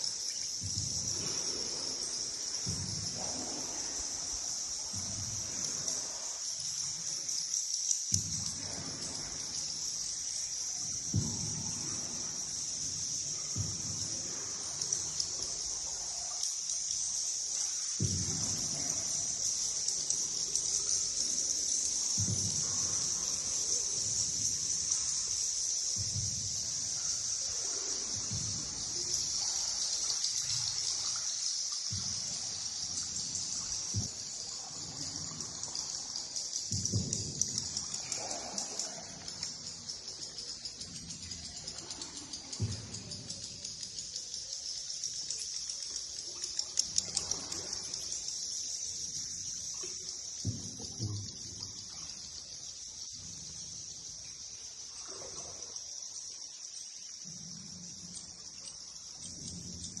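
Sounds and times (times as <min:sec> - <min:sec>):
high-pitched hiss: 0:00.0 - 1:00.0
water trickling and lapping: 0:00.0 - 1:00.0.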